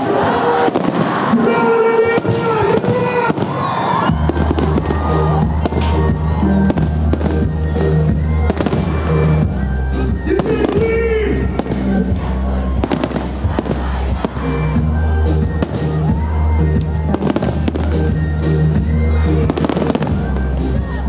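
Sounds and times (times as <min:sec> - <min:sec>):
loud music with bass line: 0:04.1 - 0:21.0.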